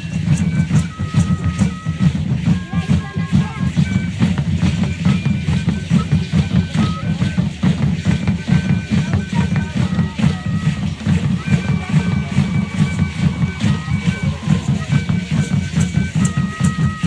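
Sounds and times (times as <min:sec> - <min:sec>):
high whistle tones: 0:00.0 - 0:02.8, 0:03.8 - 0:17.0
large drum beating fast: 0:00.0 - 0:17.0.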